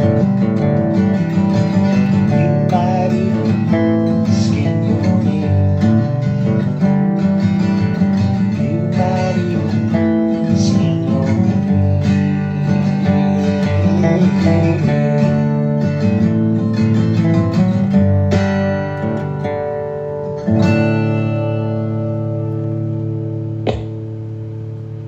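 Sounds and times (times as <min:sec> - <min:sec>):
strummed acoustic guitar: 0:00.0 - 0:25.0
wavering lead guitar notes: 0:00.0 - 0:25.0.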